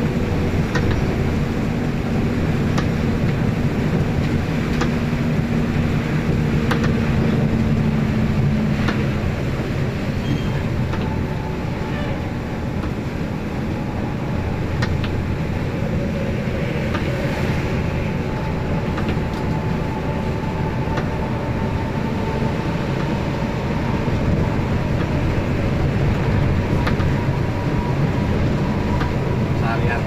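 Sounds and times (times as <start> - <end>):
bus engine and tyre rumble: 0.0 - 30.0.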